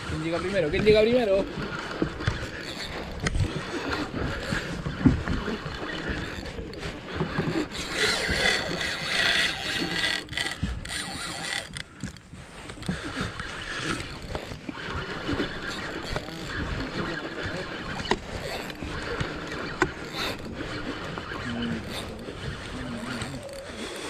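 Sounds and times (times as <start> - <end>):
fishing reel cranking: 0.0 - 24.0
wind on microphone: 0.0 - 24.0.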